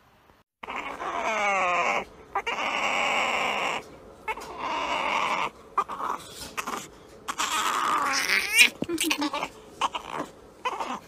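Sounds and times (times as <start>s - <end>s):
puppy growling: 0.6s - 11.0s.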